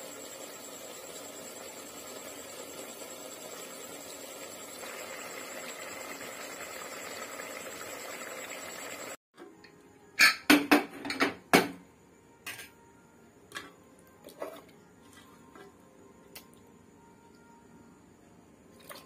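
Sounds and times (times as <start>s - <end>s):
faint high whine: 0.0s - 10.3s, 11.9s - 18.9s.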